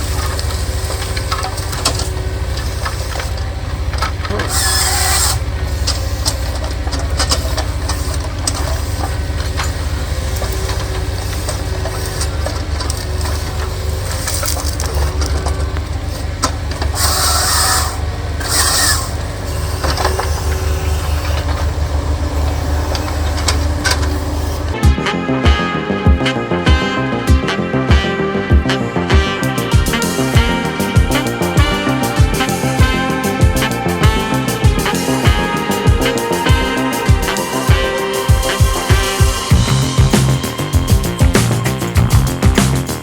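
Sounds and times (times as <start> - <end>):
hiss bursts: 0.0 - 24.8, 29.5 - 43.0
diesel engine rumbling: 0.0 - 43.0.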